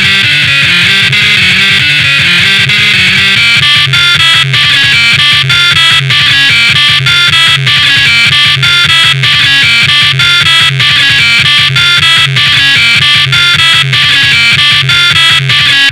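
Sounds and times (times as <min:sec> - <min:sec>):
loud music with steady beat: 0:00.0 - 0:15.9.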